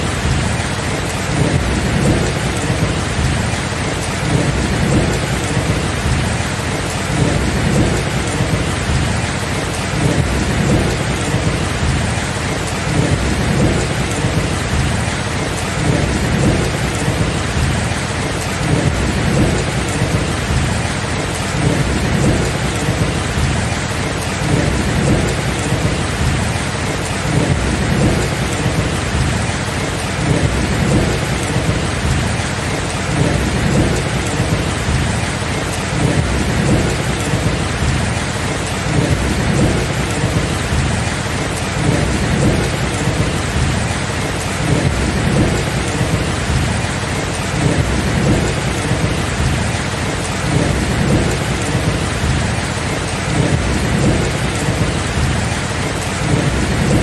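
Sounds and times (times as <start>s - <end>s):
low thunder rumbling: 0.0s - 57.0s
steady rain: 0.0s - 57.0s.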